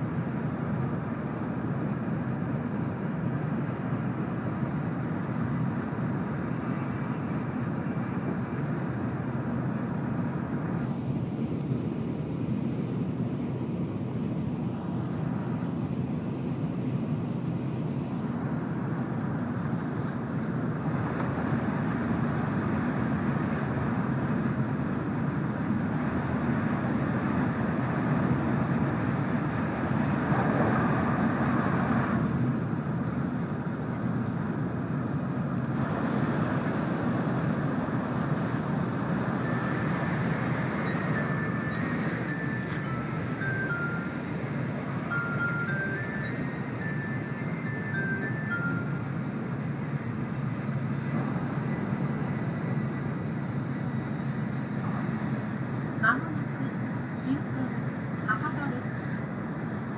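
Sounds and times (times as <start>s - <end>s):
train interior rumble and rush: 0.0s - 59.9s.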